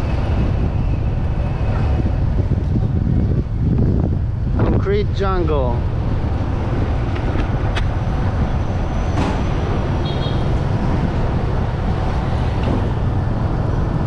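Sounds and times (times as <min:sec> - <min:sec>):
motorcycle riding in traffic: 0:00.0 - 0:14.0.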